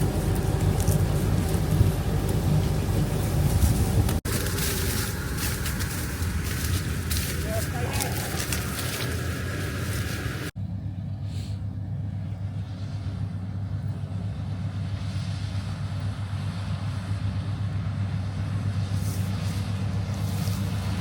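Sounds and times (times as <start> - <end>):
deep diesel engine drone: 0.0 - 21.0.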